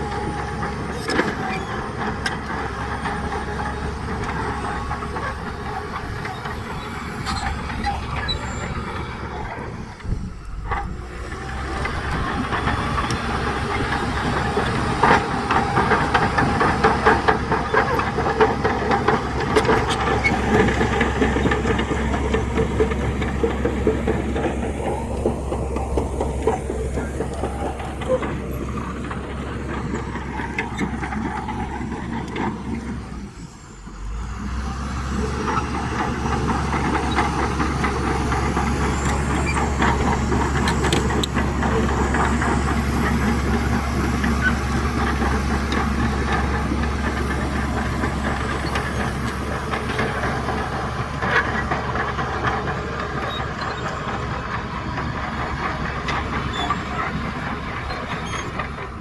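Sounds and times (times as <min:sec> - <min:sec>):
diesel engine rumble: 0:00.0 - 0:59.0
steel tracks clanking: 0:00.0 - 0:59.0.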